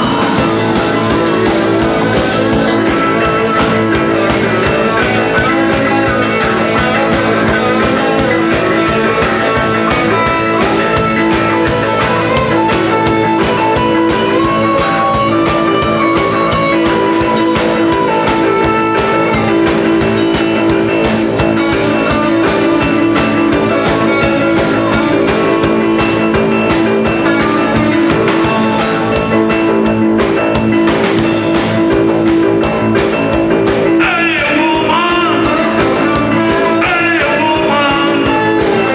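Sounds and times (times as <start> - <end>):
drum kit: 0.0 - 38.9
guitar melody: 0.0 - 38.9
rock band playing: 0.0 - 38.9.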